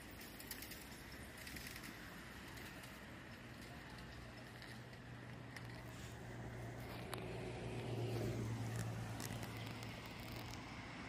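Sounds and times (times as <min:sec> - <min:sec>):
road traffic engine hum: 0:00.0 - 0:11.0.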